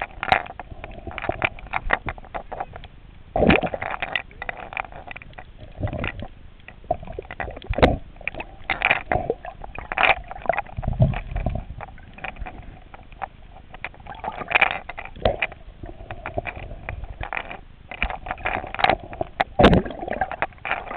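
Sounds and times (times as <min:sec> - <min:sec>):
underwater clicks and knocks: 0:00.0 - 0:20.9
water sloshing and gurgling: 0:00.0 - 0:20.9.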